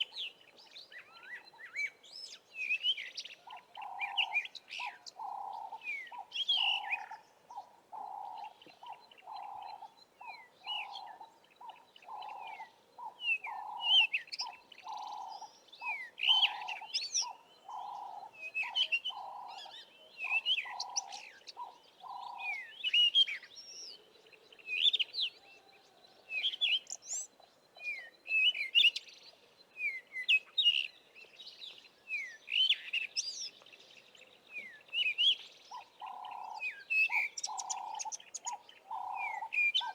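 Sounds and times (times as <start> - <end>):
wild birds singing: 0.0 - 39.9.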